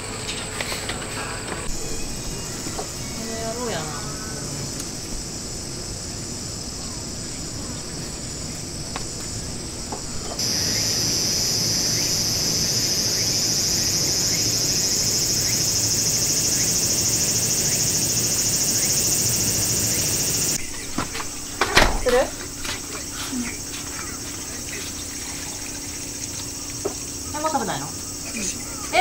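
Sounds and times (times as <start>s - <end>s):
high-pitched insect chorus: 1.5s - 29.0s.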